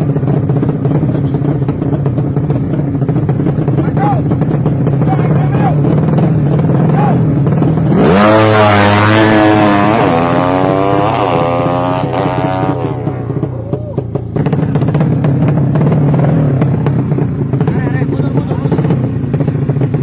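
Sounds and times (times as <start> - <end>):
other engines idling: 0.0 - 8.1, 11.0 - 20.0
motorcycle revving and shifting: 0.0 - 20.0.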